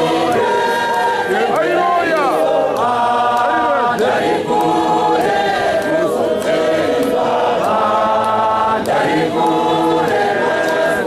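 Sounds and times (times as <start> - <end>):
women's choir singing: 0.0 - 11.0.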